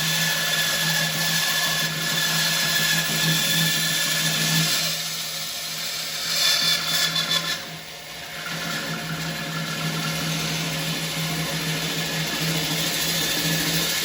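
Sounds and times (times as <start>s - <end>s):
bandsaw cutting wood: 0.0s - 14.0s
bandsaw motor hum: 0.0s - 14.0s.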